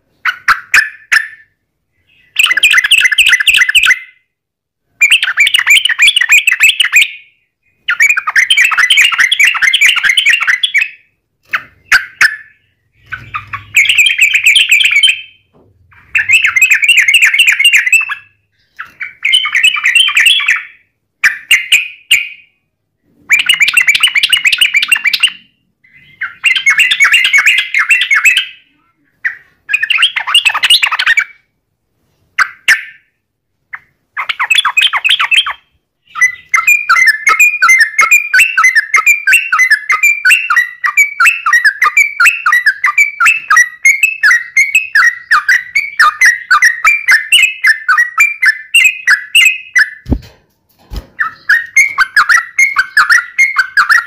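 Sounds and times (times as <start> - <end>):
bird song with chattering notes: 0.0 - 31.6, 32.3 - 50.2, 50.9 - 54.0.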